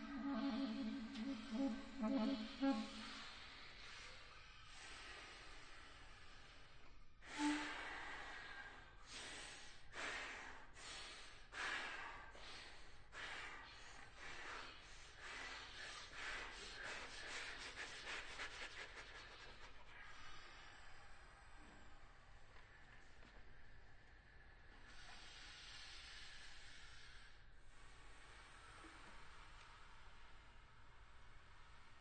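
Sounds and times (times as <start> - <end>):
woodwinds breathy air sounds: 0.0 - 32.0.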